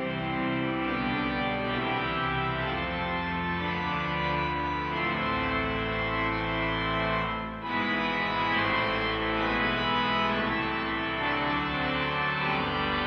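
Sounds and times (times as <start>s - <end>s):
pipe organ chords: 0.0s - 13.0s.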